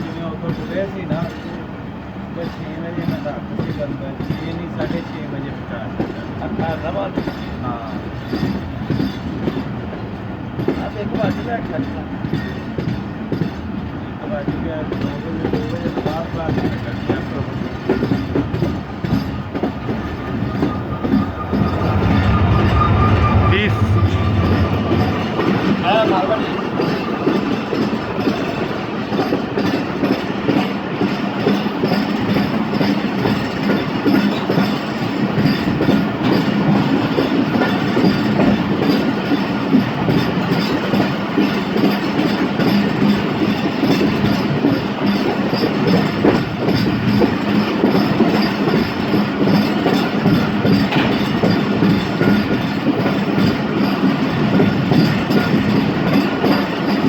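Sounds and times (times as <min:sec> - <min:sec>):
train rumble: 0:00.0 - 0:57.0
train wheels clicking on rail joints: 0:00.0 - 0:57.0.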